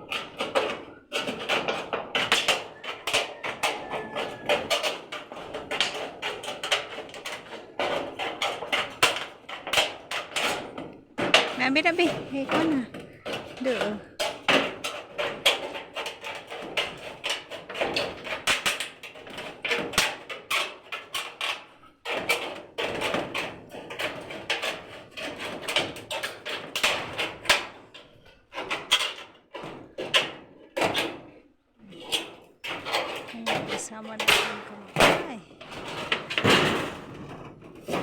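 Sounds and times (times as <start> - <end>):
tools knocking and scraping wood: 0.0 - 38.0.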